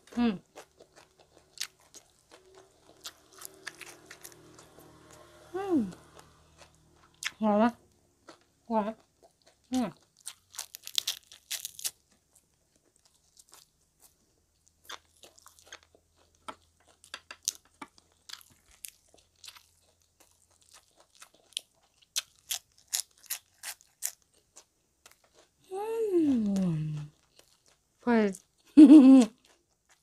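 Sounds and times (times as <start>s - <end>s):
crunching and chewing: 0.0s - 25.7s, 26.3s - 30.0s.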